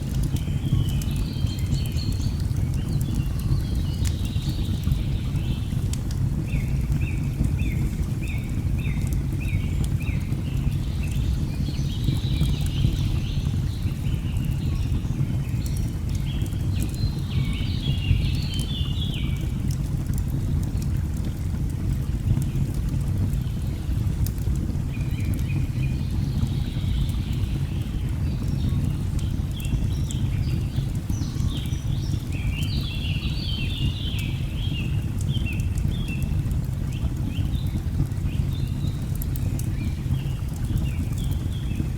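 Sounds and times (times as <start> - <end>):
log fire crackling: 0.0 - 41.9.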